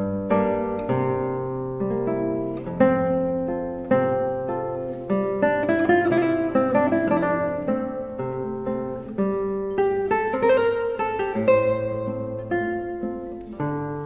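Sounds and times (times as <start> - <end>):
acoustic guitar picking chords: 0.0 - 14.0.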